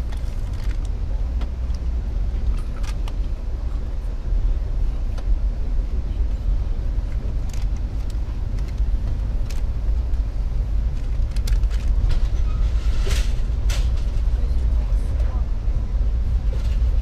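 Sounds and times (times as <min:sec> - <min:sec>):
passenger train rumble: 0:00.0 - 0:17.0.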